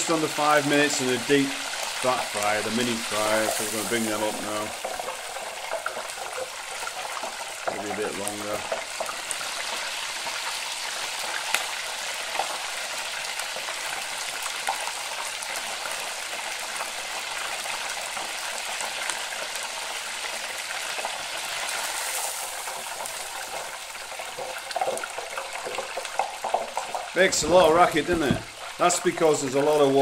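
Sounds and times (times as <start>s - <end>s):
oil bubbling and crackling: 0.0s - 30.0s
oil popping: 0.0s - 30.0s.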